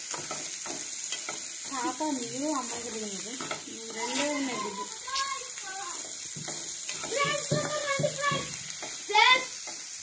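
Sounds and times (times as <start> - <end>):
spoon scraping a pan: 0.0 - 5.4, 6.0 - 10.0
curry sizzling in a pan: 0.0 - 10.0.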